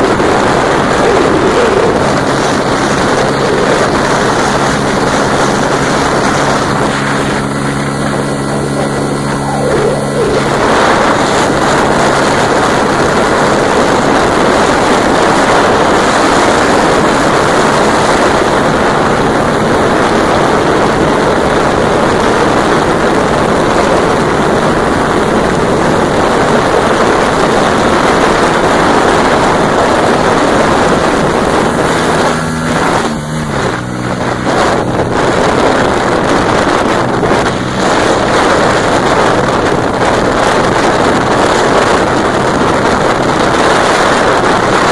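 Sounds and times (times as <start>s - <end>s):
motorcycle engine at full throttle: 0.0s - 44.9s
wind rush on microphone: 0.0s - 44.9s.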